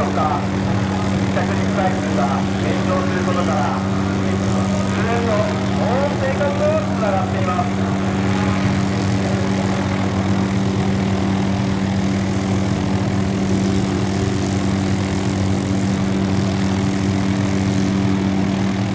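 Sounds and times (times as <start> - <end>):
steady engine drone: 0.0 - 18.9.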